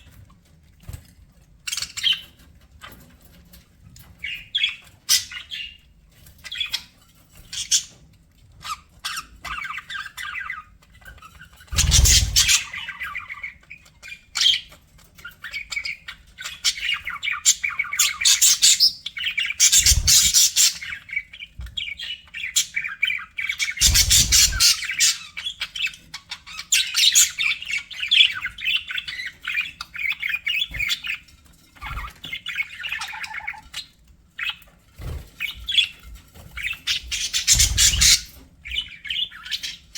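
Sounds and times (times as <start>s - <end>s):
budgerigars chirping and chattering: 1.6s - 39.9s.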